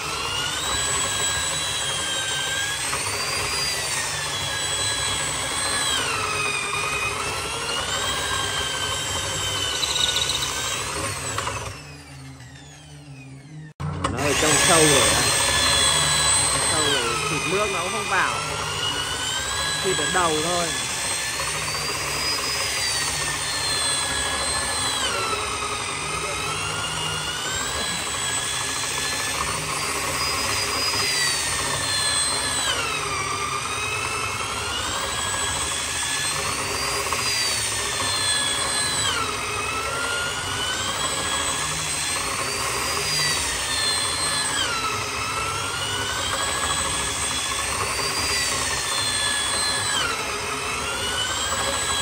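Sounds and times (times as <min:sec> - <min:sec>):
electric drill whining: 0:00.0 - 0:52.0.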